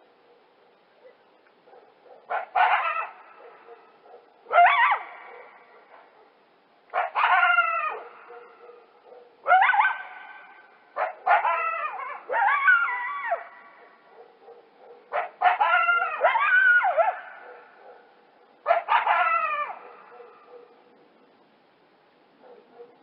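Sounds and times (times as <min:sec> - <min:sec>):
coyotes yipping and howling: 0:00.2 - 0:21.0.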